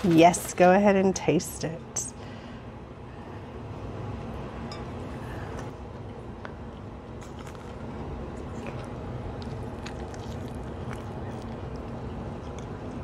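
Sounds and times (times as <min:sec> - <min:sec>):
restaurant background hum: 0:00.0 - 0:13.0.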